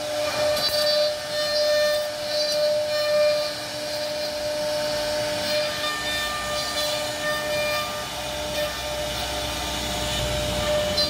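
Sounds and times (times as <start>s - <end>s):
bit cutting wood hiss: 0.0s - 11.0s
router spindle whine: 0.0s - 11.0s.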